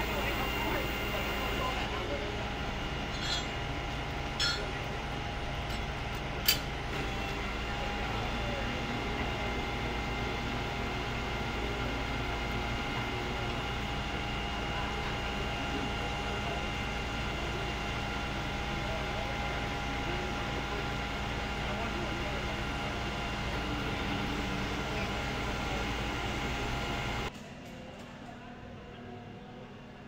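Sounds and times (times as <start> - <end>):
crane engine and hydraulics humming: 0.0 - 27.3.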